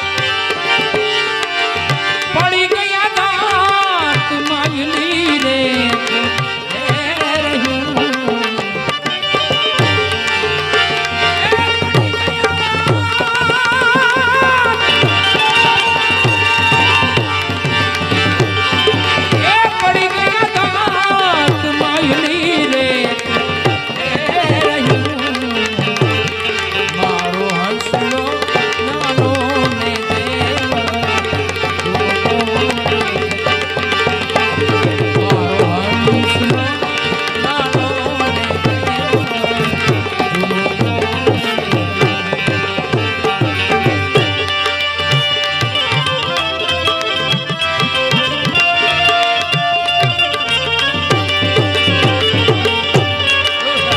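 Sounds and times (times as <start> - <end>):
ornamented melody line: 0.0 - 53.9
tabla rhythm: 0.0 - 53.9.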